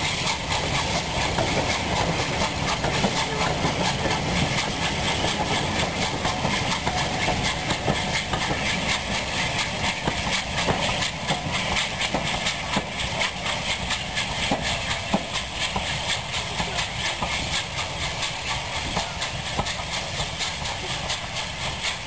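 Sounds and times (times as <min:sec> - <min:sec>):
steam locomotive exhaust hissing: 0:00.0 - 0:22.0
wheels clicking over rail joints: 0:00.0 - 0:22.0.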